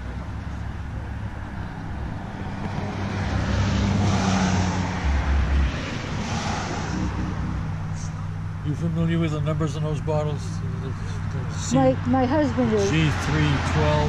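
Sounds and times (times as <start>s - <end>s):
car passing: 0.0s - 14.0s
low engine hum: 0.0s - 14.0s.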